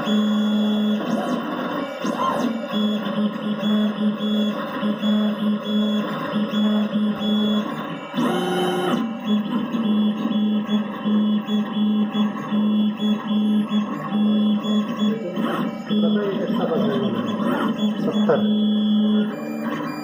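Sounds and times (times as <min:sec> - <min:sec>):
stepper motors humming in pulses: 0:00.0 - 0:20.0.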